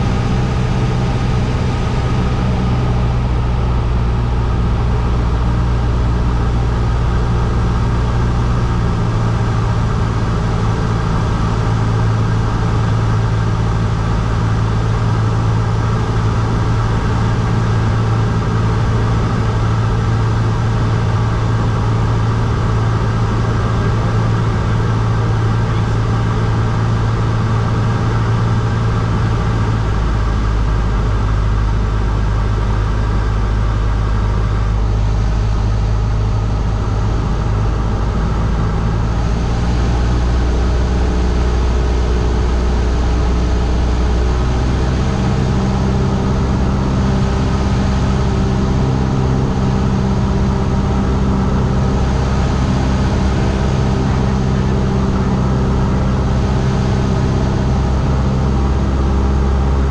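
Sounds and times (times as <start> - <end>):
airplane engine drone in cockpit: 0.0 - 59.9.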